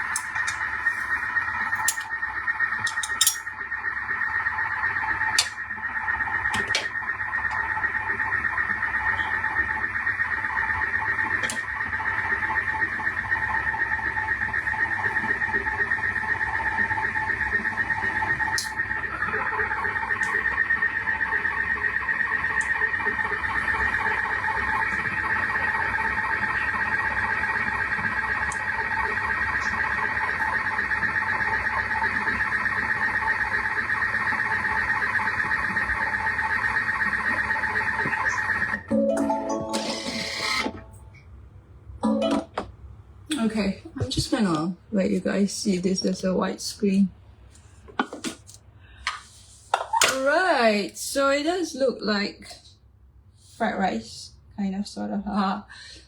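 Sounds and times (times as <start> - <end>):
hum with high whine: 0.0 - 56.0.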